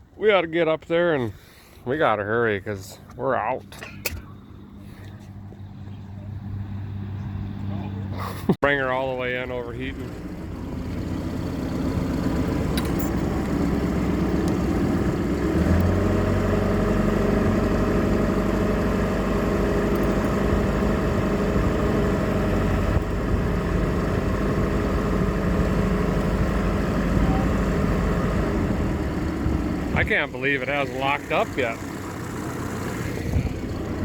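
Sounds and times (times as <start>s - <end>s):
boat engine running: 0.9s - 34.0s.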